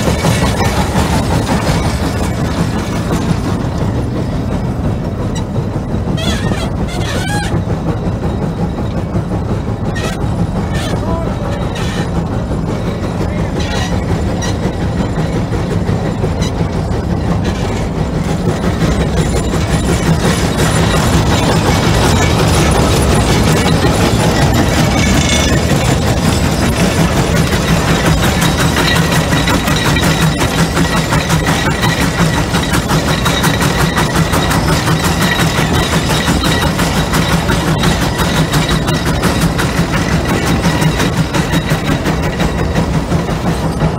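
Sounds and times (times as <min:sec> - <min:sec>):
plow clatter: 0:00.0 - 0:43.9
steam traction engine rumbling: 0:00.0 - 0:43.9.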